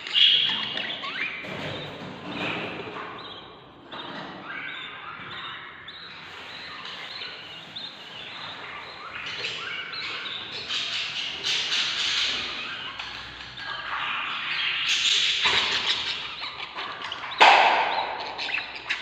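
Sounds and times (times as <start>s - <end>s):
budgerigar chicks chirping: 0.0s - 19.0s.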